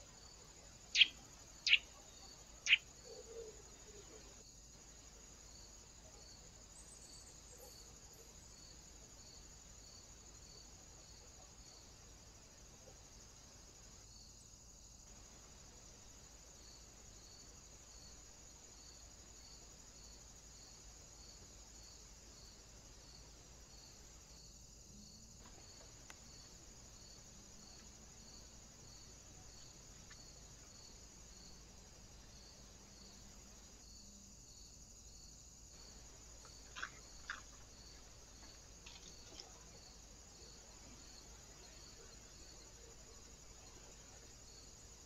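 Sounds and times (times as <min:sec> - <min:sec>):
faint high-pitched hiss: 0:00.0 - 0:45.0.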